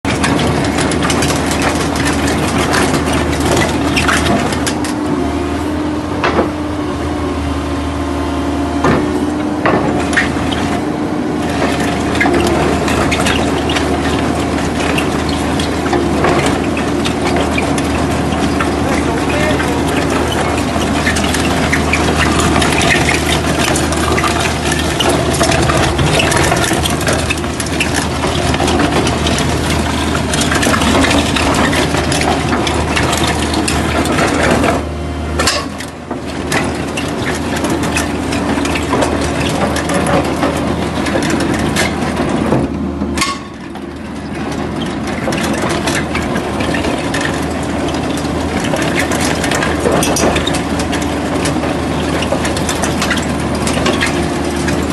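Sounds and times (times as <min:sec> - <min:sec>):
rig engine humming: 0:00.0 - 0:54.9.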